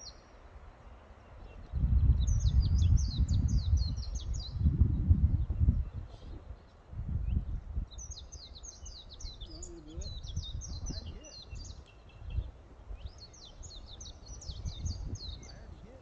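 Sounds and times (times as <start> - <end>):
songbird singing: 0.0 - 16.0
wind rumbling on microphone: 0.0 - 16.0.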